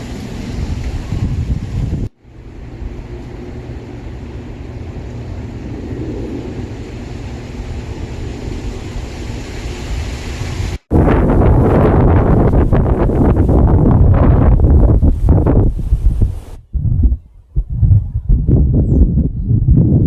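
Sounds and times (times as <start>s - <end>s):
strong wind gusting: 0.0s - 20.0s
wind buffeting microphone: 0.0s - 20.0s.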